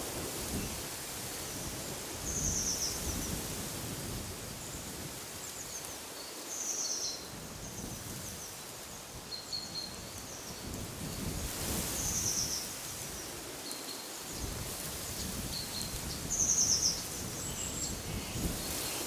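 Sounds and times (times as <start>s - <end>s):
wind blowing through trees: 0.0s - 19.0s.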